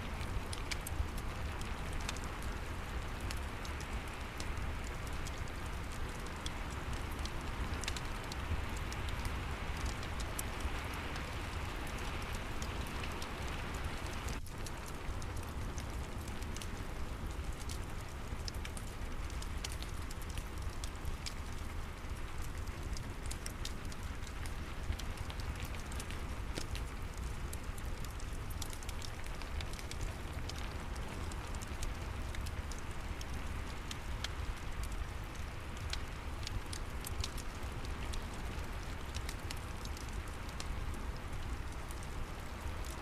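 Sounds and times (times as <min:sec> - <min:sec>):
steady rain: 0:00.0 - 0:43.0
wood fire crackling: 0:00.0 - 0:43.0.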